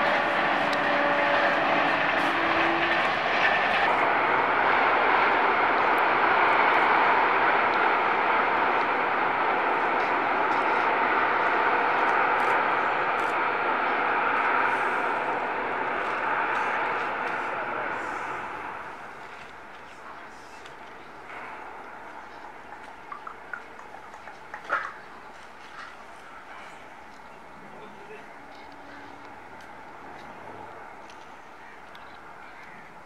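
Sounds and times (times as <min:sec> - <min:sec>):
distant train rushing roar: 0:00.0 - 0:33.0.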